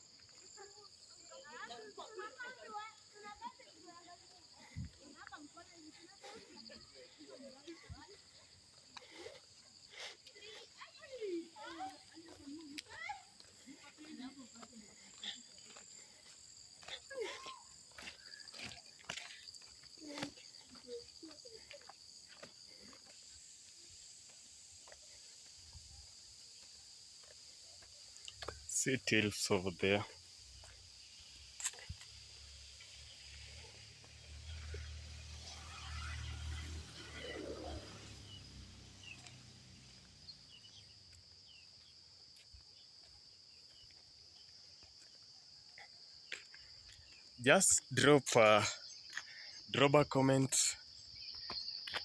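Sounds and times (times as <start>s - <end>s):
faint crickets trilling: 0.0s - 52.0s
insects chirring: 0.0s - 52.0s.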